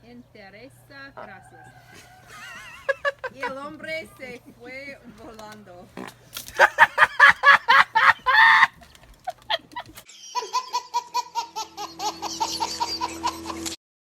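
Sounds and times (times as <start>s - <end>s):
loud laughter: 1.9s - 5.4s, 6.0s - 13.8s.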